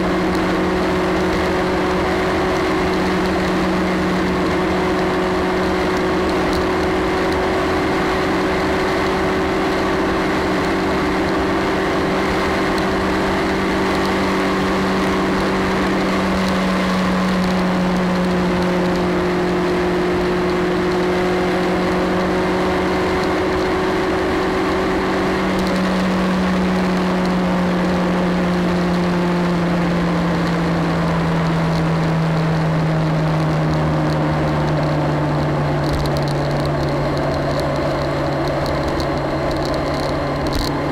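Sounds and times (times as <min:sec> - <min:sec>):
motorcycle engine running: 0:00.0 - 0:40.9
wind: 0:00.0 - 0:40.9.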